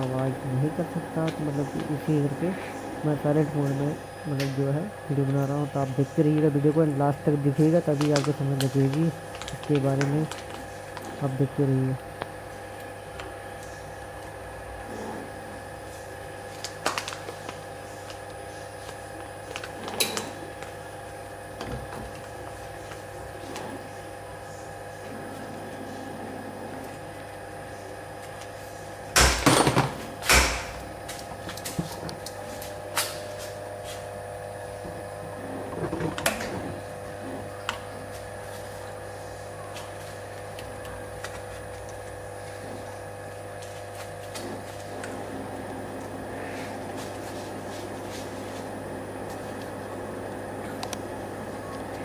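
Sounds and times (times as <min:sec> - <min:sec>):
machines humming: 0:00.0 - 0:16.6, 0:20.4 - 0:52.0.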